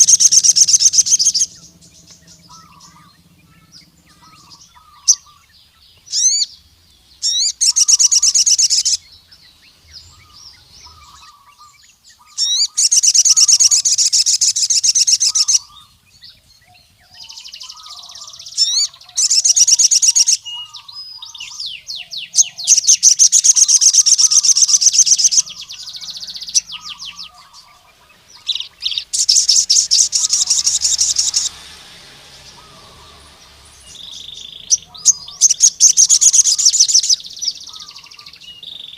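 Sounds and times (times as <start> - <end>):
bird singing fast high trills: 0.0 - 38.9
other birds chirping faintly: 0.0 - 38.9.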